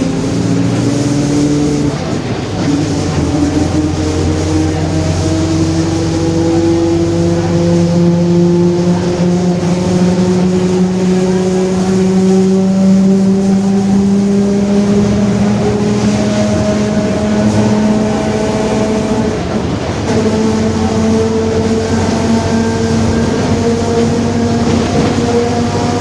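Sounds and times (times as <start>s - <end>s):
bus differential whine: 0.0s - 26.0s.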